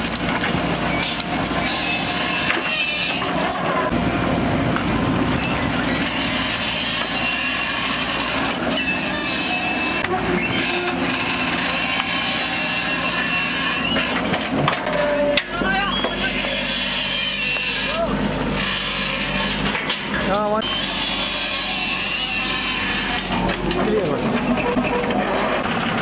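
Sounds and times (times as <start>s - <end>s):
rubble and metal scraping: 0.0s - 4.0s, 4.6s - 26.0s
machine engine running: 0.0s - 26.0s
high metallic squeals: 0.8s - 3.9s, 5.3s - 26.0s.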